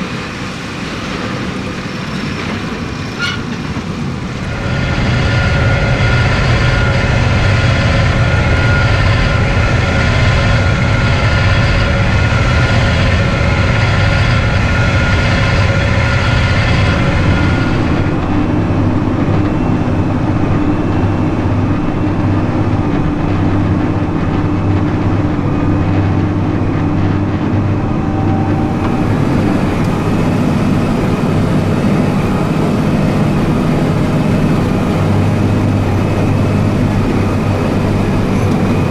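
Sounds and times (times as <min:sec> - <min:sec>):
tractor running under load: 0:00.0 - 0:38.9
baler whine: 0:02.3 - 0:38.9.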